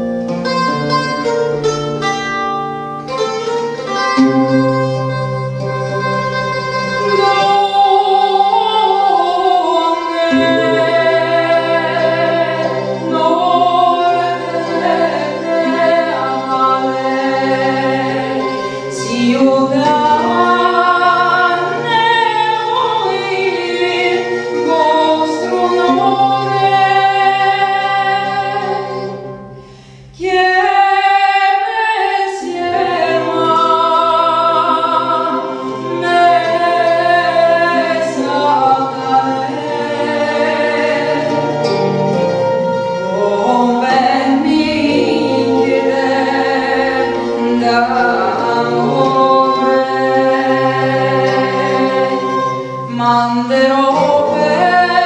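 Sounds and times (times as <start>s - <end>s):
woman singing long wavering notes: 7.1s - 29.5s, 30.2s - 41.7s, 43.0s - 55.0s.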